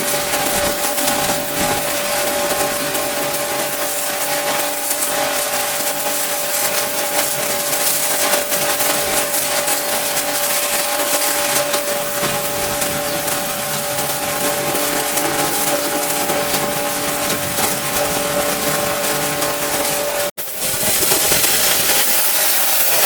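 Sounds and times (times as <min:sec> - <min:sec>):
pressure washer motor whine: 0:00.0 - 0:23.0
water jet hissing: 0:00.0 - 0:23.0.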